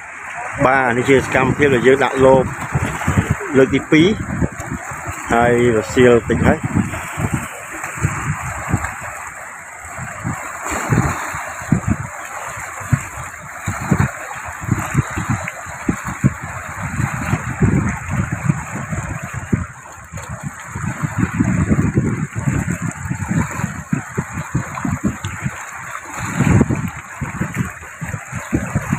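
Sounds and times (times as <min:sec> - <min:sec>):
sea water lapping around rocks: 0:00.0 - 0:28.9
wind rumble on microphone: 0:00.0 - 0:28.9.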